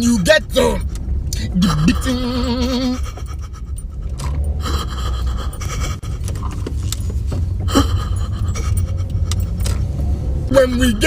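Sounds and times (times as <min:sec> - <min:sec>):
low road rumble: 0:00.0 - 0:11.0
sharp clicks and rattles: 0:00.3 - 0:10.1.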